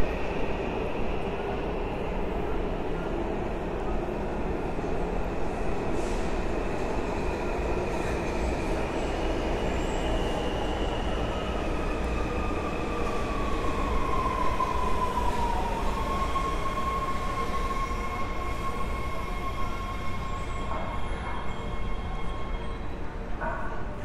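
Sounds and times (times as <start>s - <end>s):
subway train rumble: 0.0s - 24.0s.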